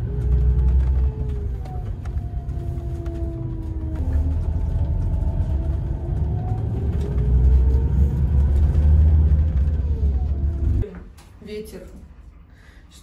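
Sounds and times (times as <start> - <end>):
vehicle engine and road rumble: 0.0 - 10.8.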